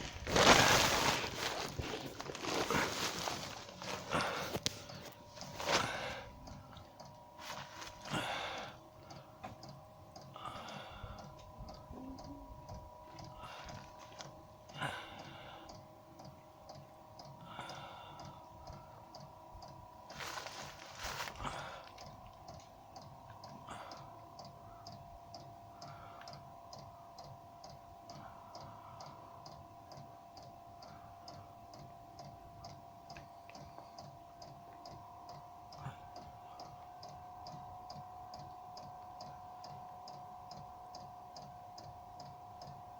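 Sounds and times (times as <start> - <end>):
heater blower fan humming: 0.0 - 42.9
fuel pump ticking: 0.3 - 21.2, 21.8 - 42.9.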